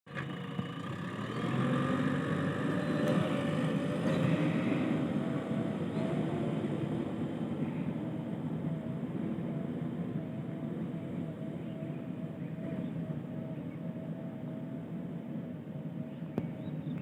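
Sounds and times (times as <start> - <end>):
diesel engine running: 0.1 - 17.0
thin wavering whine: 1.5 - 17.0.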